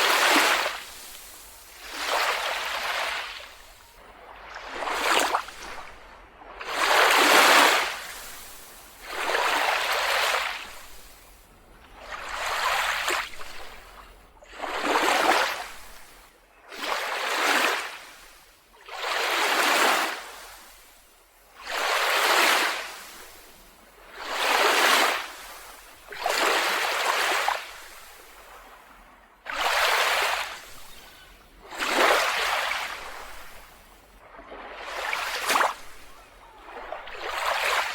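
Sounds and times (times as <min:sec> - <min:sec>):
small waves washing onto beach: 0:00.0 - 0:37.9.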